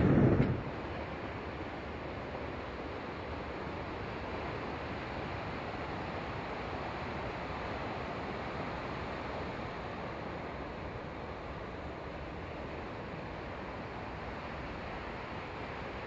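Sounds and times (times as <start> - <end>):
distant train rumble: 0.0 - 16.0
wind and surf rushing: 0.0 - 16.0.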